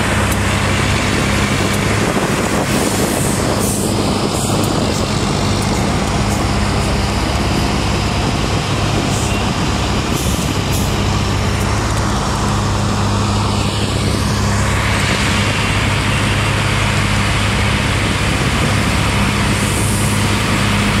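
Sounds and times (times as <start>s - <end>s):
diesel engines humming: 0.0s - 21.0s.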